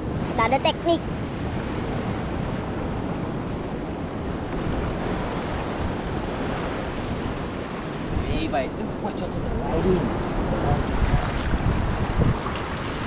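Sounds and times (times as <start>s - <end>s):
small waves washing on sand: 0.0s - 13.0s
wind buffeting microphone: 0.0s - 13.0s.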